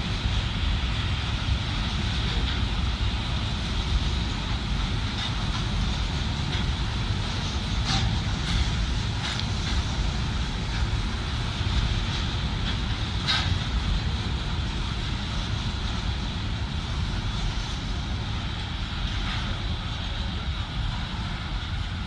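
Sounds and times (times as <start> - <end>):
diesel train rumbling past: 0.0 - 22.0.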